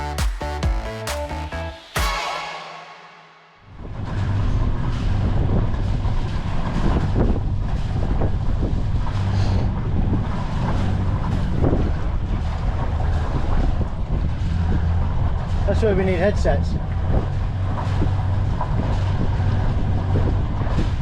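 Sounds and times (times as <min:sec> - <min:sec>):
steady low drone: 0:00.0 - 0:21.0
wind buffeting microphone: 0:03.7 - 0:21.0.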